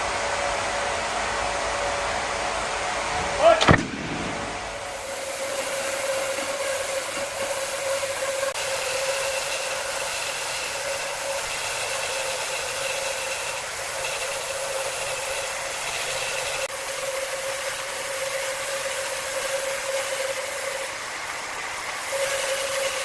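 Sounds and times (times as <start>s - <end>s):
large wood-cutting saw whining: 0.0s - 23.0s.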